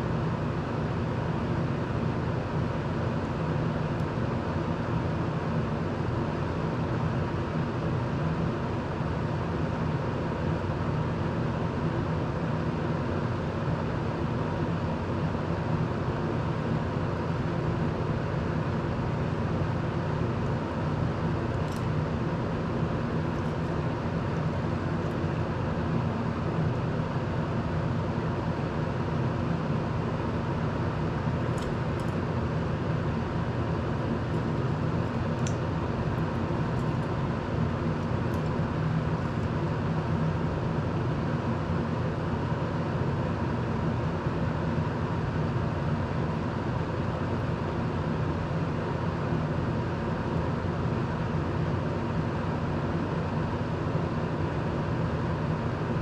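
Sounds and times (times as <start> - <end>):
fan motor hum: 0.0 - 56.0.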